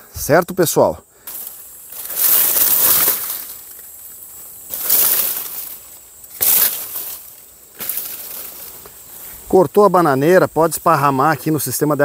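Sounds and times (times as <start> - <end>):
dry leaves and grass rustling: 1.0 - 12.0.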